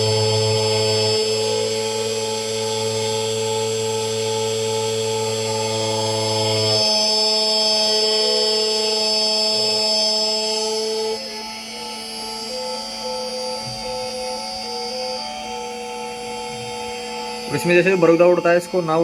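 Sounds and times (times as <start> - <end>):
key cutting machine whine: 0.0 - 19.0.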